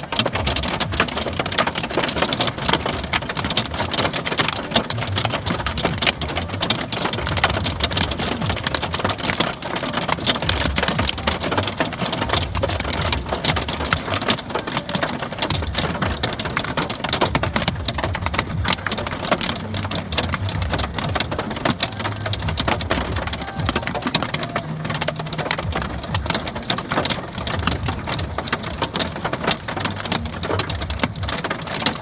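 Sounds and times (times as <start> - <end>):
hail clattering on vehicle: 0.0 - 32.0
low road rumble: 0.0 - 32.0.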